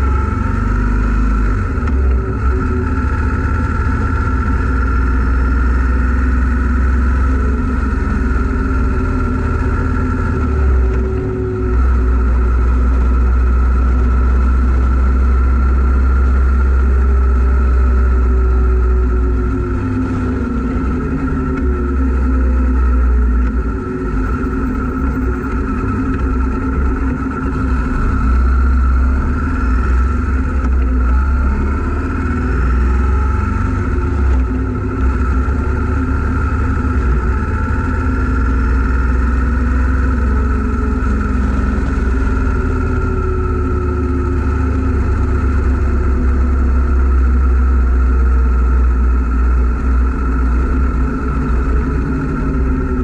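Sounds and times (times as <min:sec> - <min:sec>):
motorcycle engine running: 0:00.0 - 0:53.0
road noise: 0:00.0 - 0:53.0.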